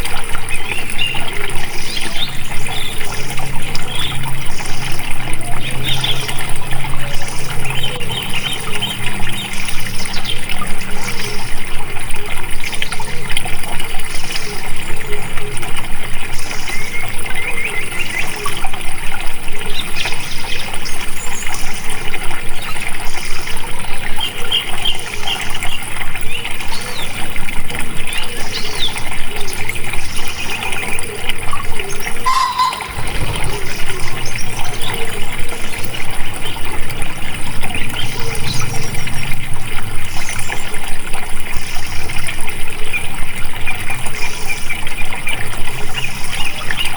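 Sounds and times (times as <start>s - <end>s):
water trickling and gurgling: 0.0s - 46.9s.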